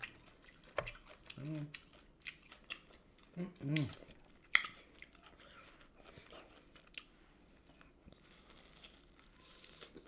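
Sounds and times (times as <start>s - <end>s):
faint chewing with crunches: 0.0s - 10.0s.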